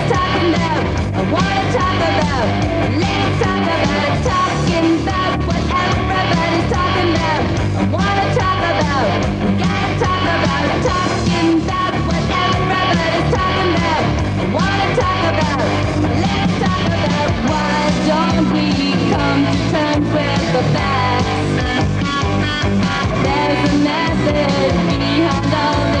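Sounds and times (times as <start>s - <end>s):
loud rock band: 0.0s - 26.0s
person singing: 0.0s - 26.0s.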